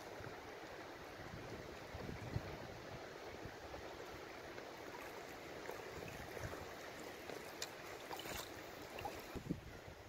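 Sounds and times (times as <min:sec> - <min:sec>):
small water splashes: 0:00.0 - 0:09.5
flowing river water: 0:00.0 - 0:10.0.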